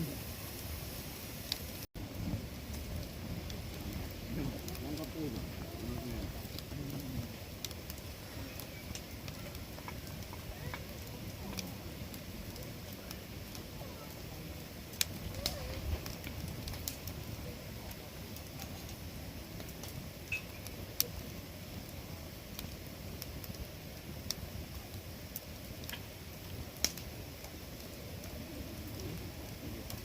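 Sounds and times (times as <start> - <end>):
campfire flames rumbling: 0.0 - 30.0
fire crackles and pops: 0.0 - 30.0.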